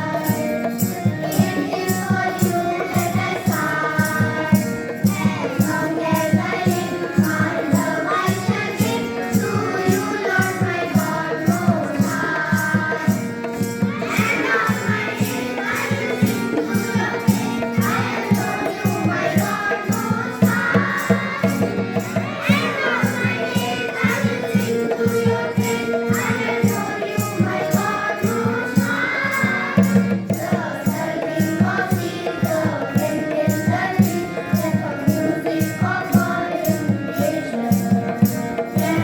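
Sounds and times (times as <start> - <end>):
group singing devotional song: 0.0 - 39.0
percussion beat: 0.0 - 39.0
tambourine jingles: 0.0 - 39.0.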